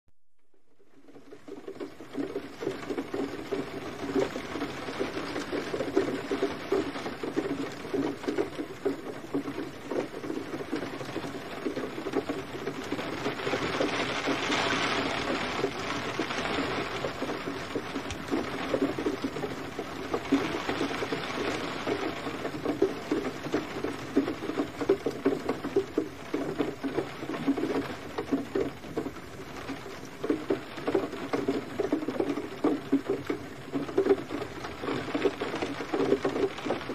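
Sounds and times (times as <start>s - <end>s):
gentle rain falling: 0.4s - 36.9s.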